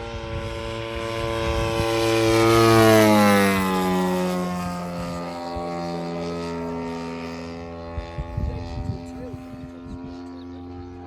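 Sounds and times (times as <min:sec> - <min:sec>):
model plane engine flying past: 0:00.0 - 0:11.0.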